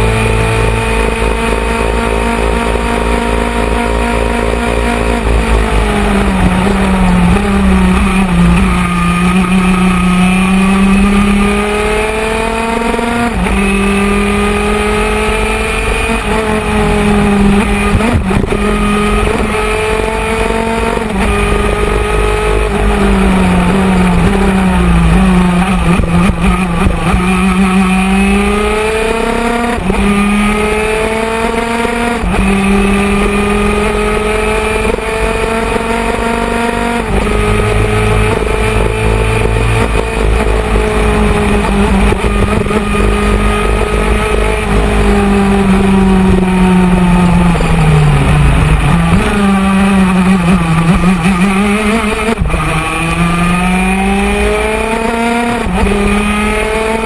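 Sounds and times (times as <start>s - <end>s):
kart engine at racing speed: 0.0s - 57.0s.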